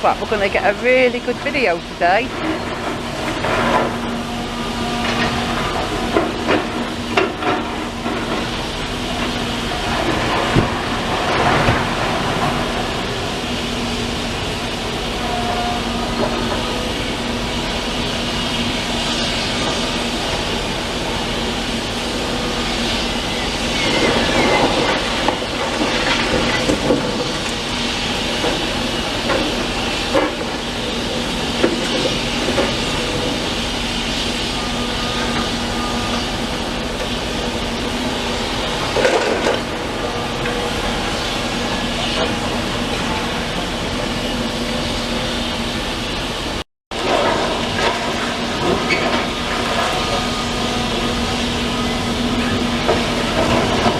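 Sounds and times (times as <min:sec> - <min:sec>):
excavator engine humming: 0:00.0 - 0:53.9.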